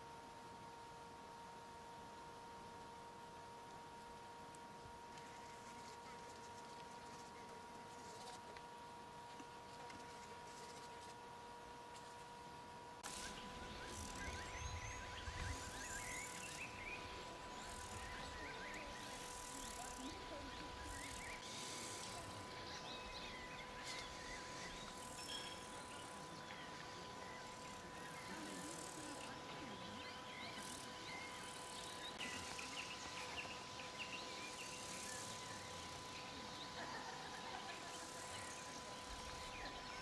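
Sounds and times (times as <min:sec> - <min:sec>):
insects: 0:00.0 - 0:40.0
steady thin whine: 0:00.0 - 0:40.0.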